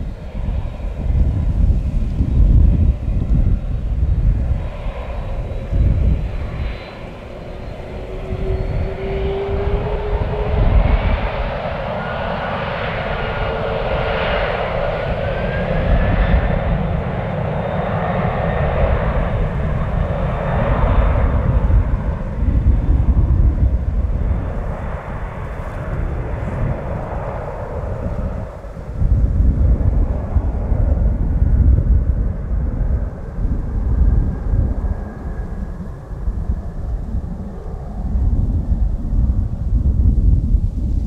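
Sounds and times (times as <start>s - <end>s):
jet engine whine: 0.0s - 41.0s
jet engines rushing: 0.0s - 41.0s
low rumble: 0.0s - 41.0s.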